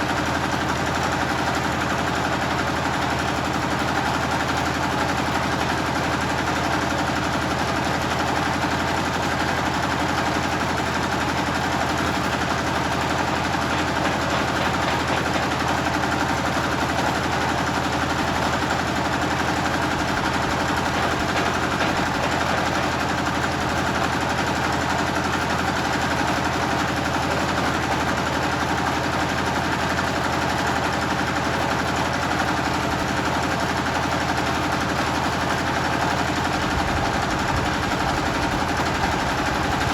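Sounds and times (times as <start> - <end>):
generator engine chugging: 0.0 - 39.9.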